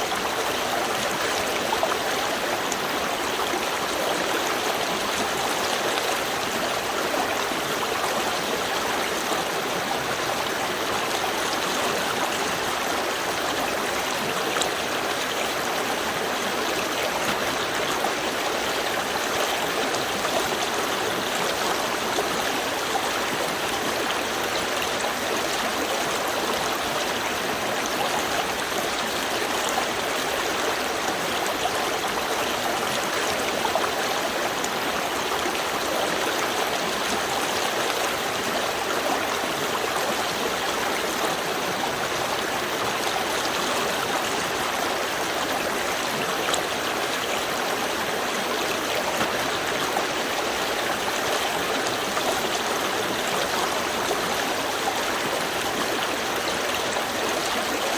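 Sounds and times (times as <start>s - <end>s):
stream babbling over stones: 0.0s - 57.9s.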